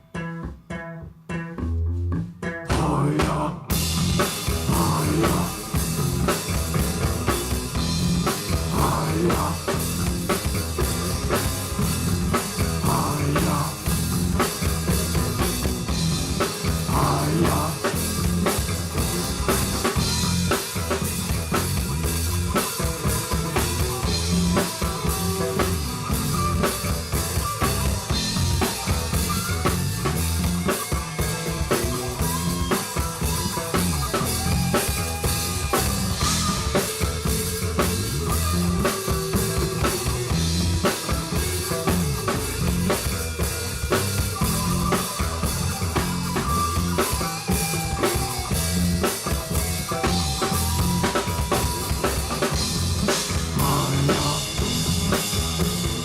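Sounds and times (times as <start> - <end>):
bass line: 0.0 - 56.0
drum kit beat: 0.0 - 56.0
live band music: 0.0 - 56.0.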